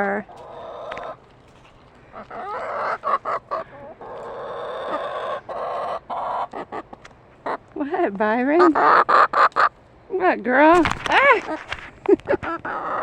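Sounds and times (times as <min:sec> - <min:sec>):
chickens clucking and calling: 0:00.0 - 0:09.9, 0:11.1 - 0:13.0.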